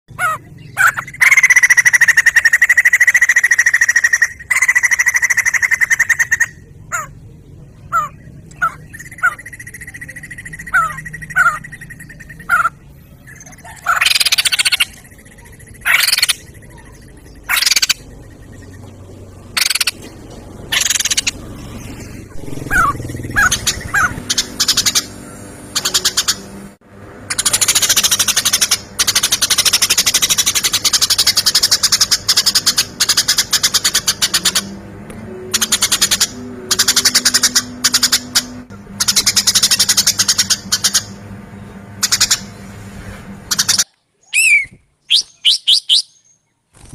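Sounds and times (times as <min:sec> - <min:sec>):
animal rattling calls: 0:00.2 - 0:07.1, 0:07.9 - 0:18.8, 0:19.5 - 0:26.5, 0:27.3 - 0:34.7, 0:35.6 - 0:41.2, 0:42.0 - 0:42.6.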